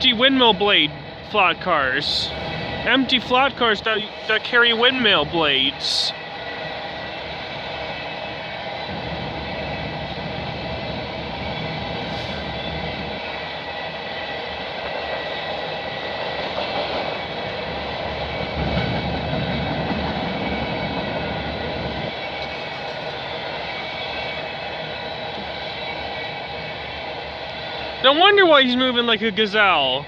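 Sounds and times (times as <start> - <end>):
freight cars rolling on rails: 0.0 - 30.0.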